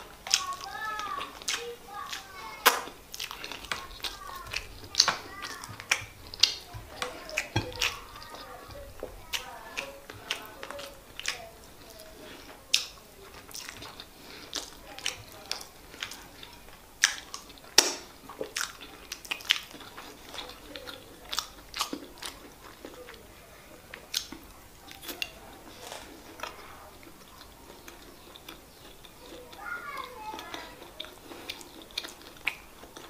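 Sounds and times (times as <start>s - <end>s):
wet chewing mouth sounds: 0.0s - 33.0s.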